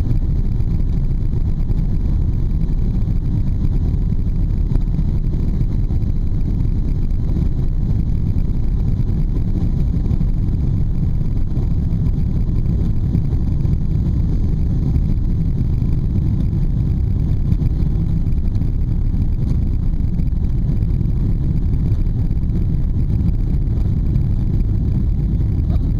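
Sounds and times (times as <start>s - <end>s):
jet engines rumbling: 0.0s - 25.9s.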